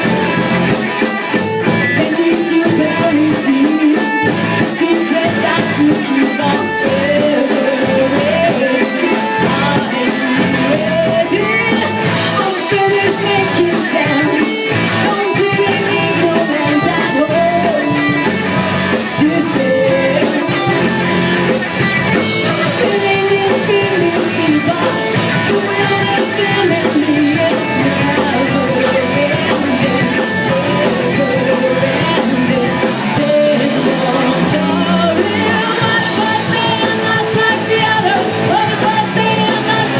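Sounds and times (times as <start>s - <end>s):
drum kit: 0.0s - 39.9s
electric guitar: 0.0s - 39.9s
person singing: 1.8s - 39.9s.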